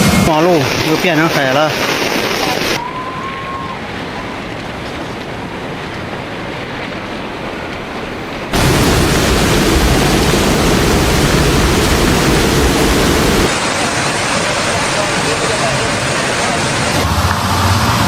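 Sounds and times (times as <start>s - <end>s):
rushing floodwater: 0.4s - 18.0s.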